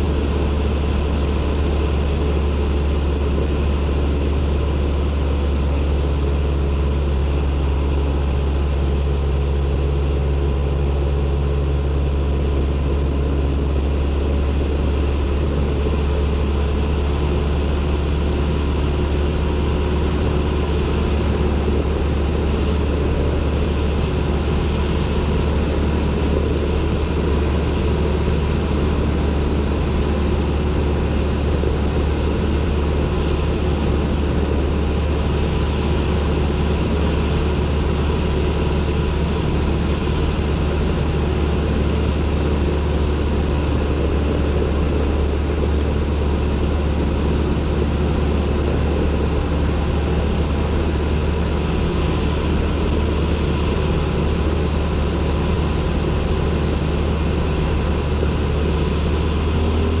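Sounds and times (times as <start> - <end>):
airplane engine drone in cockpit: 0.0 - 60.0.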